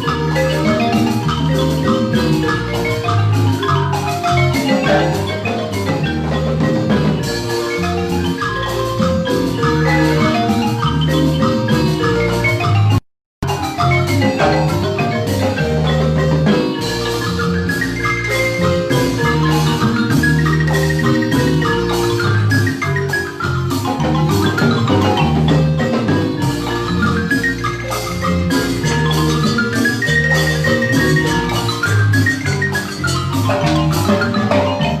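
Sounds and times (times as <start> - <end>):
marimba ensemble playing: 0.0 - 35.0.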